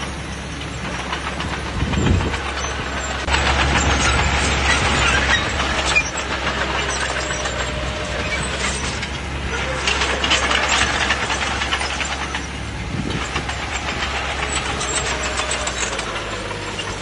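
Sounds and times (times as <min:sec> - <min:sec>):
bulldozer diesel engine running: 0:00.0 - 0:17.0
steel tracks clattering: 0:00.0 - 0:17.0.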